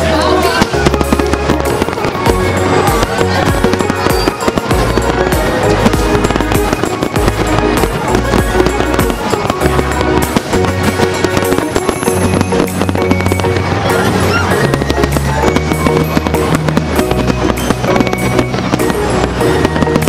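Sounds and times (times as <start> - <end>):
fireworks bangs and crackles: 0.0 - 20.0
loud music with deep bass: 0.0 - 20.0.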